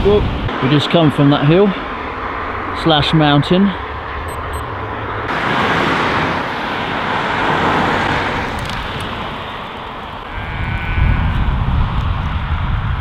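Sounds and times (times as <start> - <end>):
car passing: 0.2 - 13.0.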